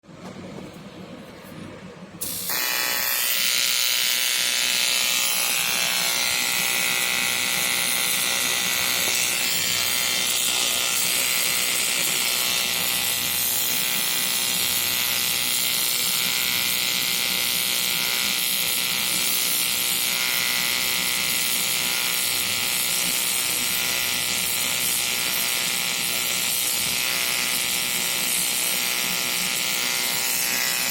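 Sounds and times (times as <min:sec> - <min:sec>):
welding arc buzzing and hissing: 0:02.2 - 0:30.9.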